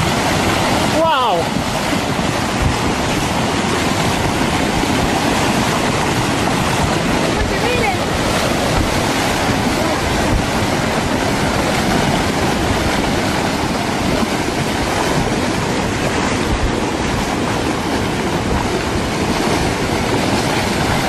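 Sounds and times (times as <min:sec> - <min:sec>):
mudflow rushing down channel: 0:00.0 - 0:21.0.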